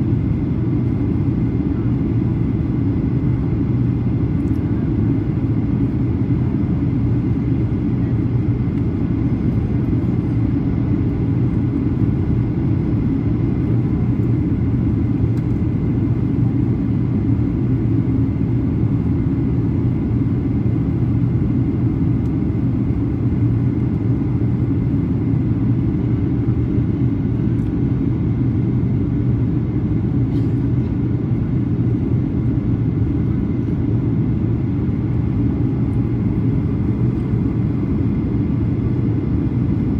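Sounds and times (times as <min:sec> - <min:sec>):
airplane engines droning: 0:00.0 - 0:39.9.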